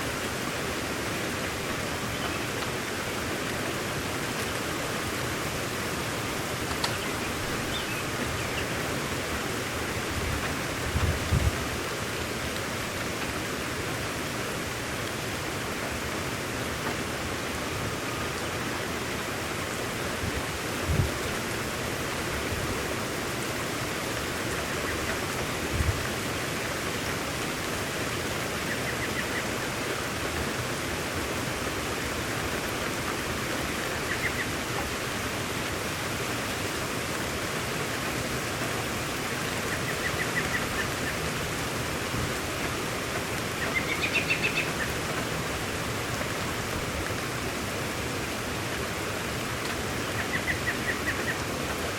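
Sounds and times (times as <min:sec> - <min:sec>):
rain hiss: 0:00.0 - 0:51.9.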